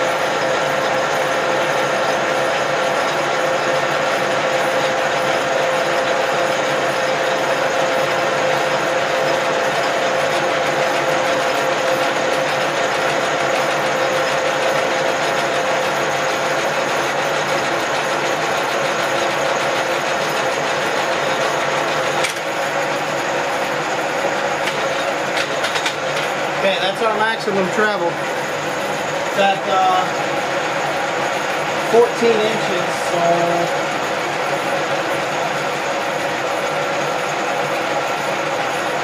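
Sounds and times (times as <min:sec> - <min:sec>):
milling machine motor whirring: 0:00.0 - 0:39.0.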